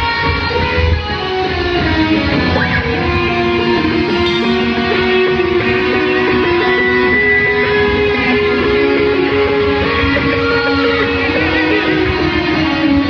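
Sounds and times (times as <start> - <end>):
electric guitars sustained notes: 0.0 - 13.0
live rock band playing: 1.4 - 13.0.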